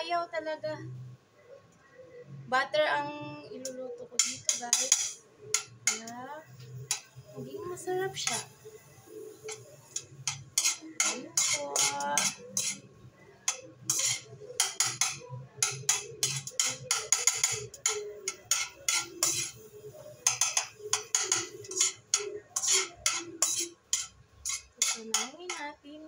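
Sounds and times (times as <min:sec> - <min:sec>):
metal spoon scraping pot: 0:04.1 - 0:25.8.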